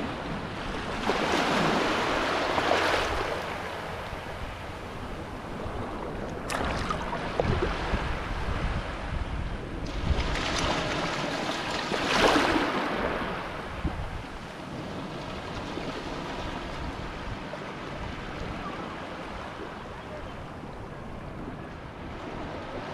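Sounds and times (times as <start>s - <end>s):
sea water lapping at shore: 0.0s - 9.2s, 9.8s - 21.0s.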